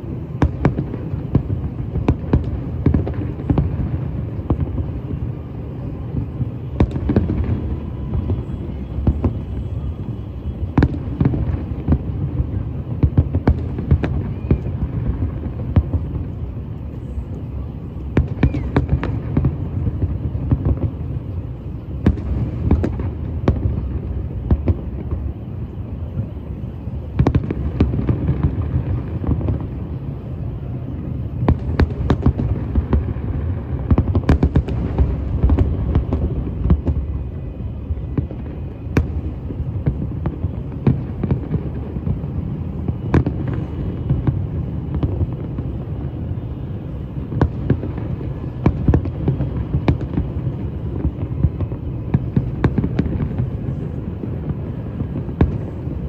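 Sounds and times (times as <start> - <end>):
fireworks bangs and pops: 0.0 - 26.4, 27.0 - 56.0.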